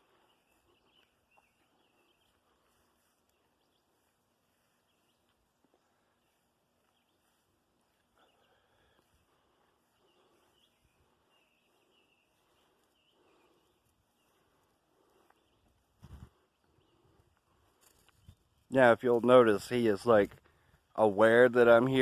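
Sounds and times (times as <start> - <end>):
distant bird chirps: 0.0 - 18.7.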